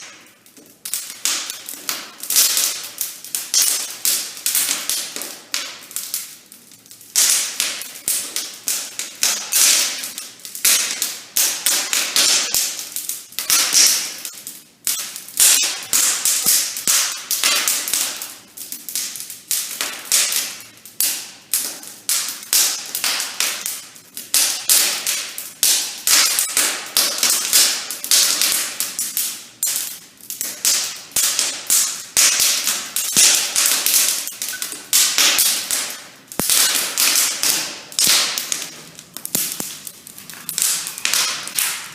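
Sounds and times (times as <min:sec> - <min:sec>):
firewood crackling: 0:00.0 - 0:41.9.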